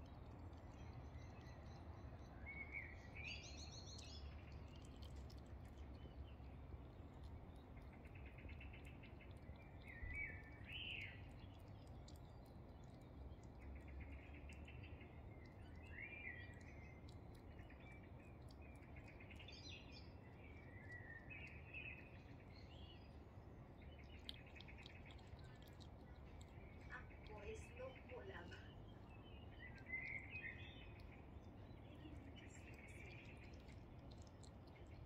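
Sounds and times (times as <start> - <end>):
hedgehog chewing wet food: 0.0 - 35.0
songbirds chirping and trilling: 0.0 - 35.0.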